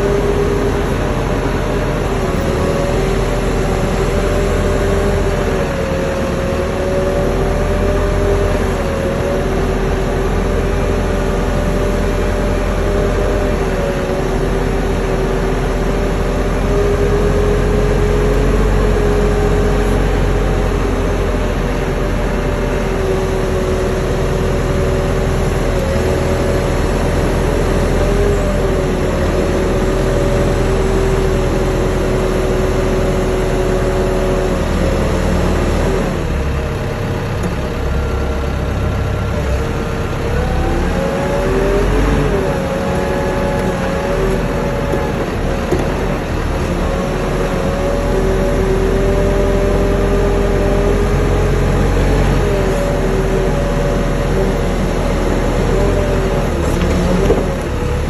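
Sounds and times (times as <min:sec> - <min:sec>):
engine running under load: 0:00.0 - 0:58.0.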